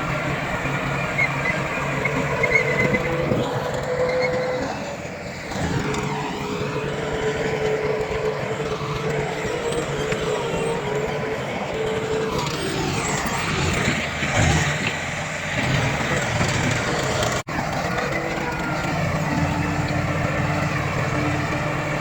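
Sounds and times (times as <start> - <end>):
diesel machinery running: 0.0 - 22.0
held whine: 0.0 - 22.0.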